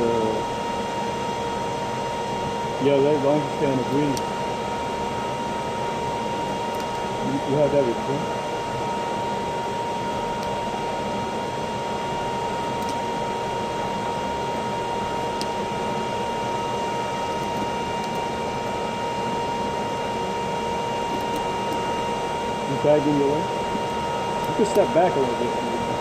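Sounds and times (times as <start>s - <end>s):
high-pitched whine: 0.0s - 26.0s
ventilation hum: 0.0s - 26.0s.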